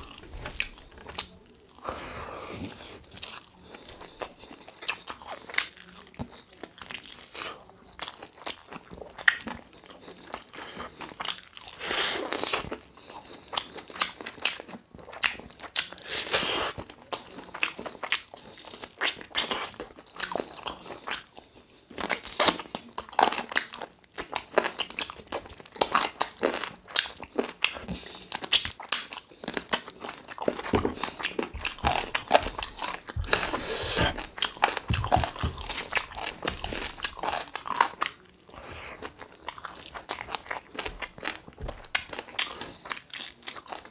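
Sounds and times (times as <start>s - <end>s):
person chewing: 0.0s - 43.9s.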